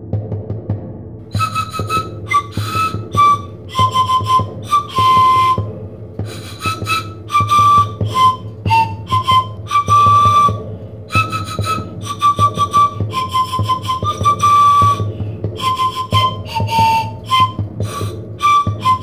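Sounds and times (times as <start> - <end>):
whistle-like melody: 1.3 - 5.7, 6.3 - 19.0.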